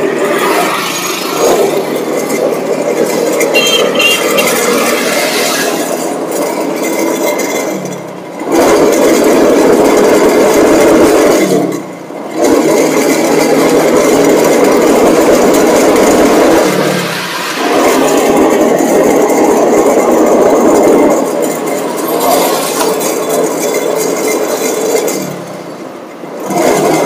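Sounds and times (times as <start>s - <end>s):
motorcycle rickshaw engine running: 0.0s - 27.0s.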